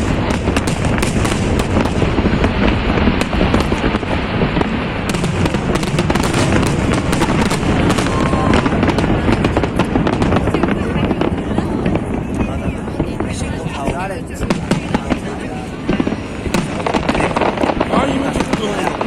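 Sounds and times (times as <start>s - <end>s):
firecrackers cracking and banging: 0.0s - 19.0s.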